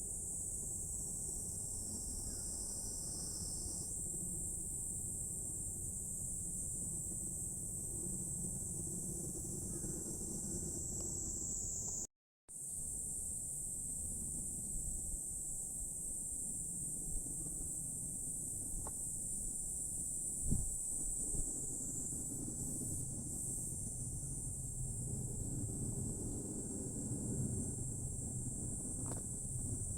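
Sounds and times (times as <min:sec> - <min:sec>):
insect chorus: 0:00.0 - 0:29.9.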